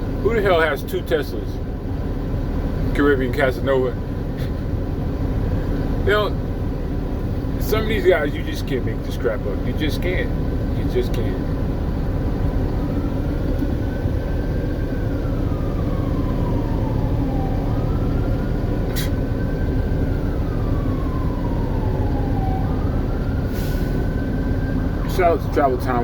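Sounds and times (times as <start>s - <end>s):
distant siren wailing: 0.0s - 26.0s
truck engine and road rumble: 0.0s - 26.0s.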